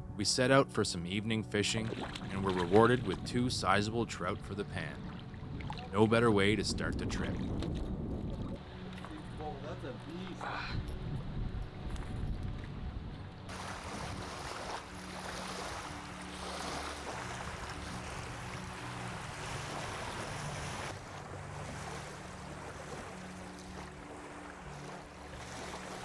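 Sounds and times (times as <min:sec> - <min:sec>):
soft music of low held notes: 0:00.0 - 0:26.0
wind: 0:00.0 - 0:26.0
lake waves: 0:01.5 - 0:26.0.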